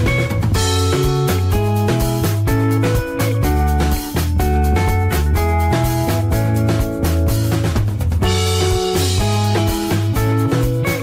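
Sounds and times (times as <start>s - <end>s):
bass: 0.0s - 11.0s
steady drum beat: 0.0s - 11.0s.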